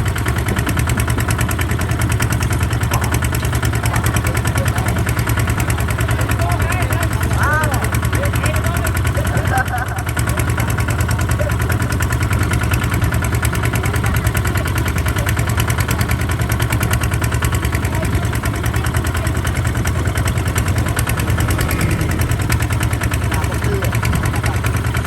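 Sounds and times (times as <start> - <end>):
diesel engine running steadily: 0.0 - 25.0.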